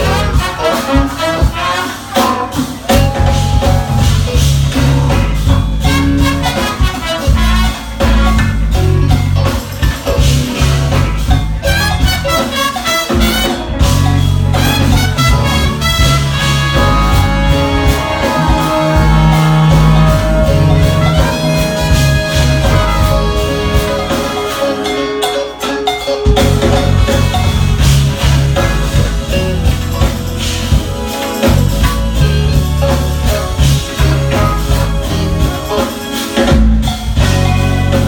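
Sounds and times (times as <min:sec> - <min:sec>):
electric bass line: 0:00.0 - 0:01.6, 0:02.8 - 0:12.5, 0:13.1 - 0:25.3, 0:26.0 - 0:38.0
horn section: 0:00.0 - 0:09.2, 0:10.2 - 0:38.0
drum beat: 0:00.0 - 0:24.8, 0:26.2 - 0:38.0
jazz-fusion band playing: 0:00.0 - 0:38.0.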